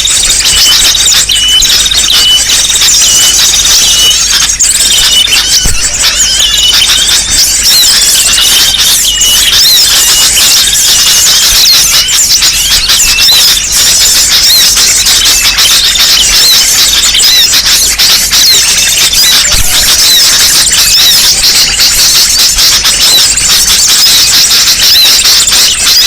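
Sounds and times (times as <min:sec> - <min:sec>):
small birds chirping and twittering: 0:00.0 - 0:26.0.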